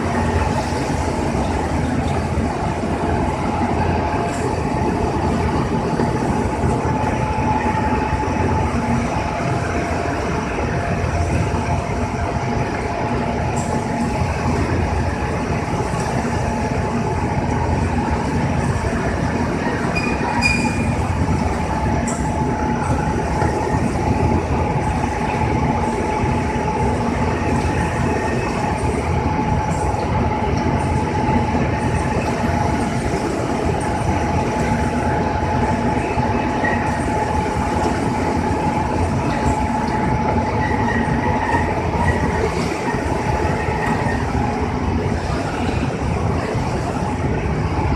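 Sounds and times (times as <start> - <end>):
machine drone and rattle: 0.0 - 47.9
machine whine: 0.0 - 47.9.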